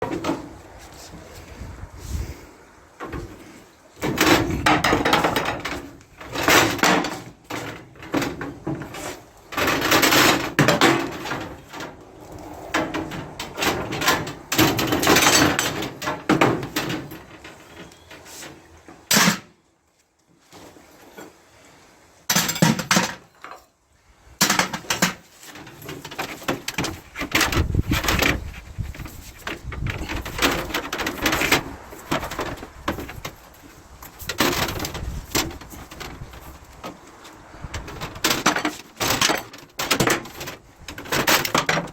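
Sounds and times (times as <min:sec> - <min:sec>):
scrap metal scraping and clattering: 0:03.0 - 0:19.5, 0:24.4 - 0:41.9.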